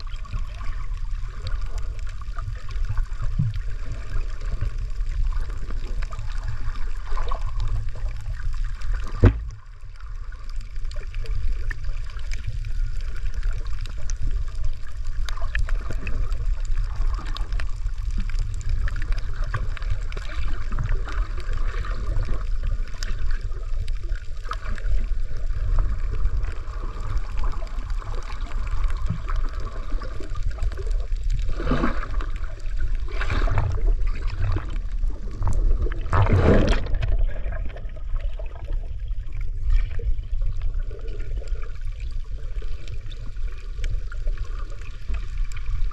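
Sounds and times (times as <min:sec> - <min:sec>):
gurgling water swishes: 0:00.0 - 0:45.9
underwater rumble and gurgling: 0:00.0 - 0:45.9.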